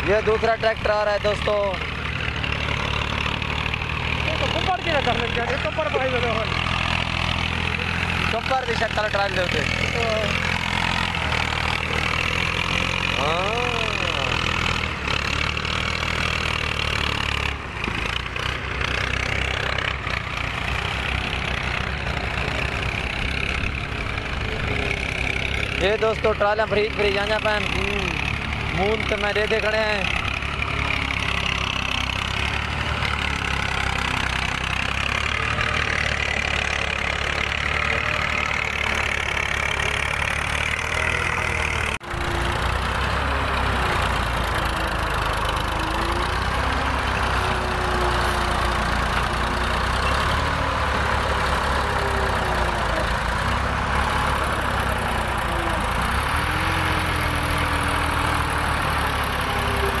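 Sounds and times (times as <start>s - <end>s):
tractor diesel engine under load: 0.0s - 60.0s.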